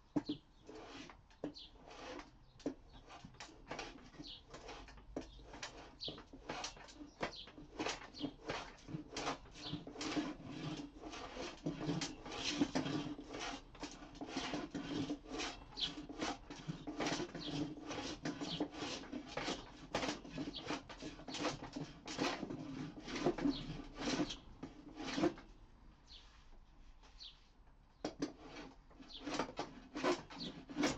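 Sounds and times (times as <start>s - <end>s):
hand plane shaving wood: 0.1s - 25.6s, 28.0s - 30.9s.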